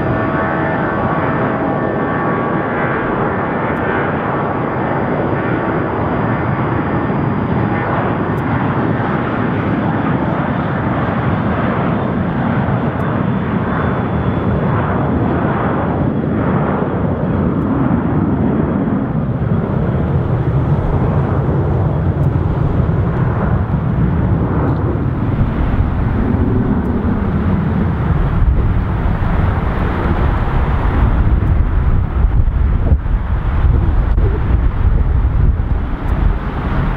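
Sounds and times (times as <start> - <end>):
jet airliner taking off: 0.0 - 36.9.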